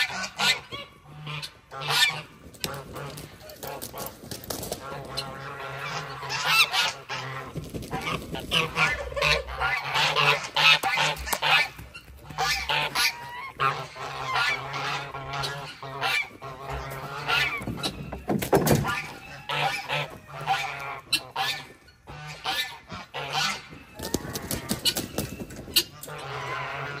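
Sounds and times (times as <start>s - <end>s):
geese honking: 0.0s - 27.0s.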